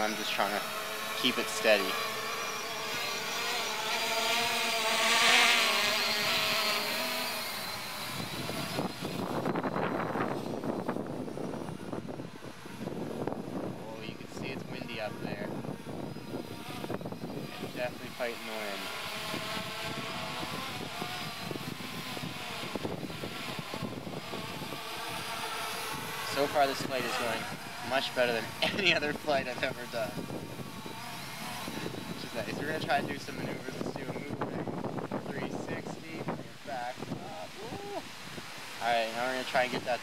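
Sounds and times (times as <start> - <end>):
drone propellers whining: 0.0 - 40.0
wind buffeting microphone: 6.0 - 38.7.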